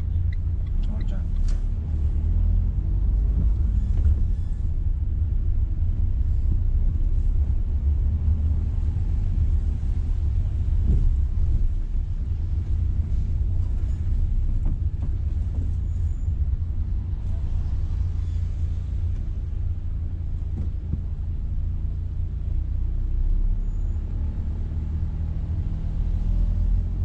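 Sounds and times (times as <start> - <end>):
car engine rumble: 0.0 - 27.0
road noise: 0.0 - 27.0.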